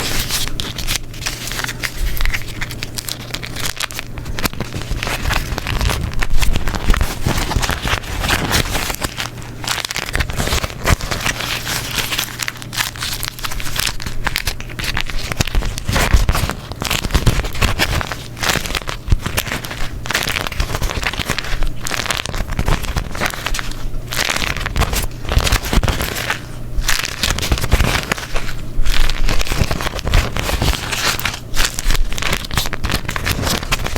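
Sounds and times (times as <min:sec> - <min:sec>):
wax paper crumpling: 0:00.0 - 0:33.9.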